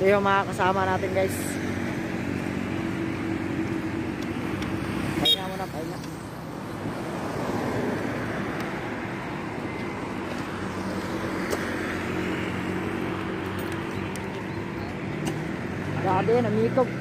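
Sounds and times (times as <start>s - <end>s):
motorcycle engines running: 0.0s - 6.9s, 8.1s - 17.0s
road noise: 0.0s - 17.0s.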